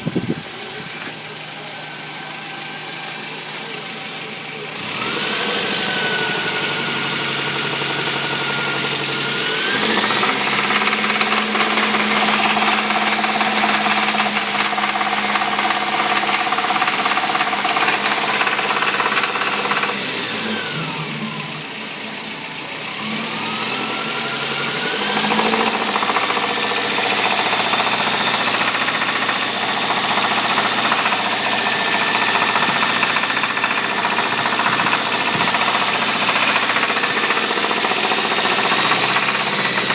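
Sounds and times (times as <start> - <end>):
knocking car engine revving: 0.0 - 39.9.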